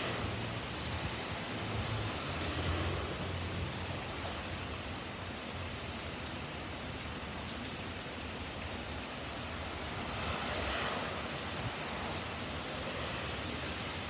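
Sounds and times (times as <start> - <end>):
car tyres on wet street: 0.0 - 14.0
steady rain falling: 0.0 - 14.0.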